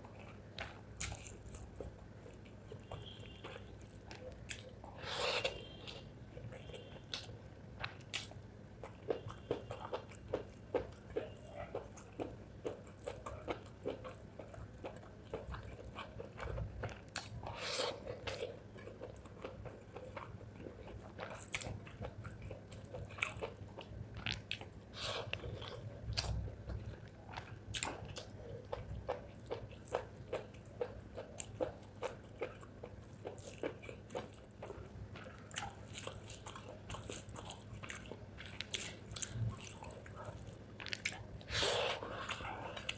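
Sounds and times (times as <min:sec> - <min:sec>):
chewing with wet mouth clicks: 0:00.0 - 0:42.9.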